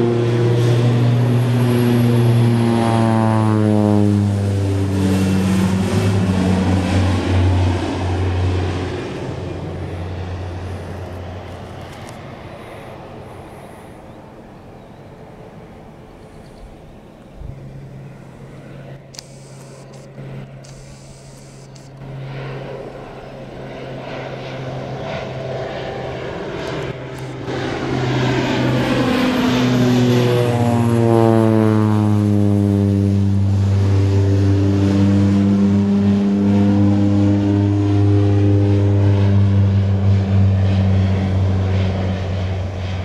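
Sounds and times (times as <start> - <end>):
airplane flying low overhead: 0.0 - 43.0.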